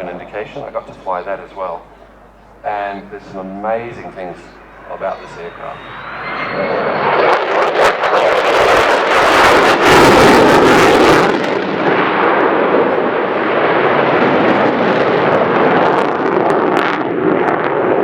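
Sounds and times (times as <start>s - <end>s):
jet engine roar: 0.0s - 18.0s.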